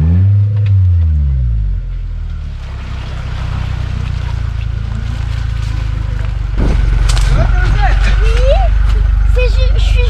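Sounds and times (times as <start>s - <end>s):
off-road engine rumbling: 0.0s - 10.0s.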